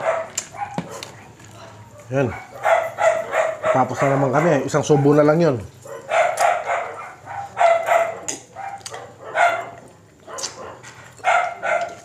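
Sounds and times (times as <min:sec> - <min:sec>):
dog barking: 0:00.0 - 0:01.2, 0:01.9 - 0:12.0.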